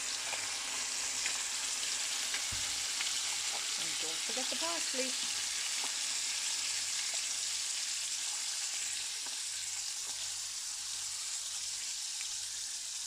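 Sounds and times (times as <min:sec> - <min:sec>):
fish frying in butter: 0:00.0 - 0:13.0.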